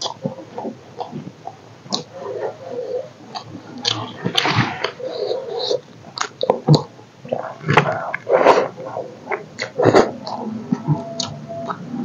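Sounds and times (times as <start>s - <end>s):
wet chewing and lip smacks: 0.0s - 2.1s, 3.3s - 5.0s, 5.6s - 11.8s
loud mouth noises: 0.0s - 12.0s.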